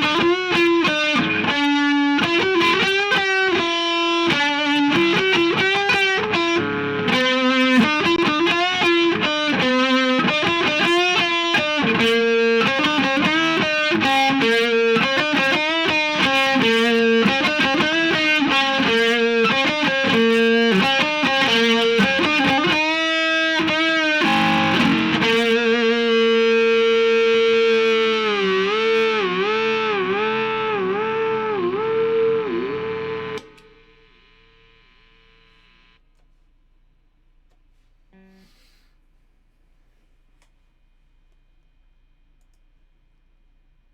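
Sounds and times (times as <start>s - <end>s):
overdriven electric guitar lead: 0.0s - 35.9s.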